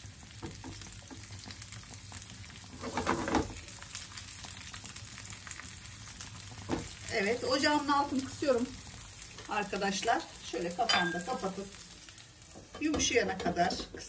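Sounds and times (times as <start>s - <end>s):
peppers sizzling in a frying pan: 0.0s - 14.0s.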